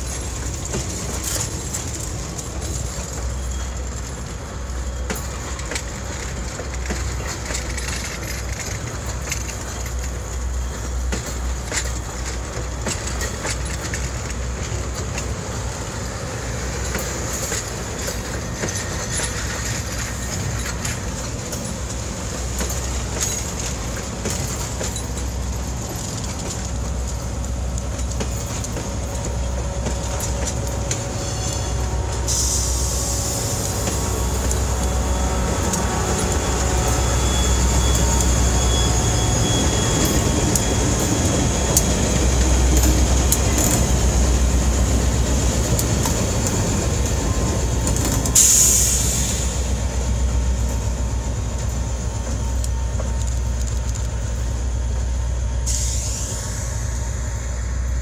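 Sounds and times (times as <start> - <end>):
diesel locomotives: 0.0 - 58.0
train wheels clicking over rail joints: 0.0 - 58.0.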